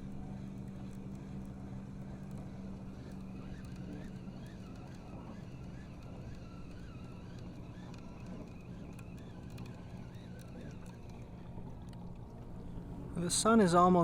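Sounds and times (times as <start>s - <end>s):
distant motorboat engine hum: 0.0s - 14.0s.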